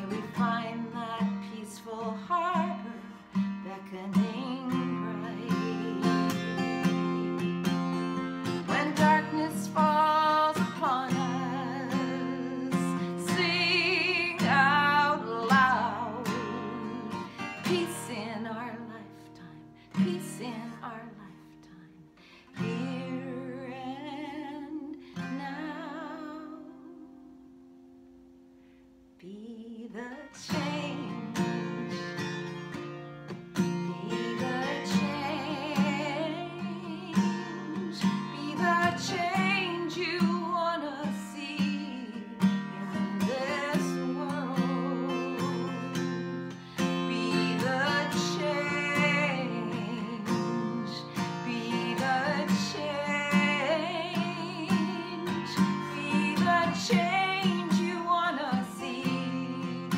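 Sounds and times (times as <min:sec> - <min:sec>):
woman singing: 0:00.0 - 0:27.6, 0:29.2 - 0:59.9
acoustic guitar strumming: 0:00.0 - 0:28.7, 0:30.0 - 0:59.9.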